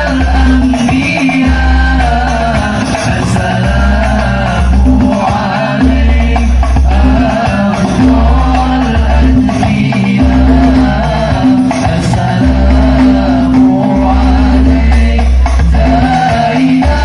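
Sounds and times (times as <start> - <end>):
deep bass notes: 0.0 - 17.0
frame drums with jingles: 0.0 - 17.0.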